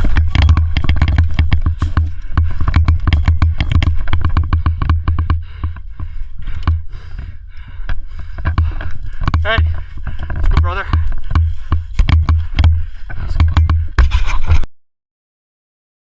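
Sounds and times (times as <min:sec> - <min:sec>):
steady low rumble: 0:00.0 - 0:14.1
sharp clicks and knocks: 0:00.0 - 0:14.7.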